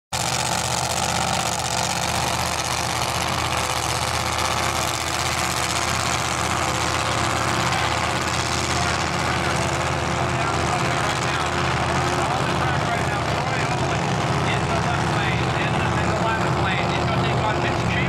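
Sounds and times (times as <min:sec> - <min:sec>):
drag car engines idling: 0:00.2 - 0:18.0.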